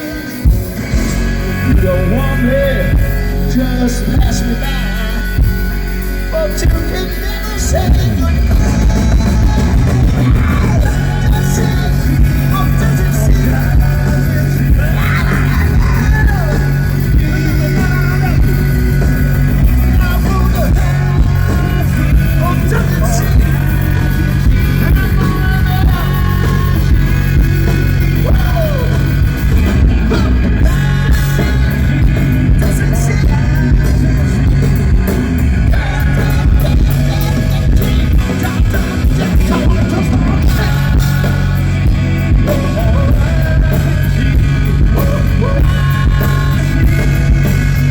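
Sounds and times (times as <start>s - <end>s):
gliding lead guitar lines: 0.0s - 47.9s
live rock band playing: 0.0s - 47.9s.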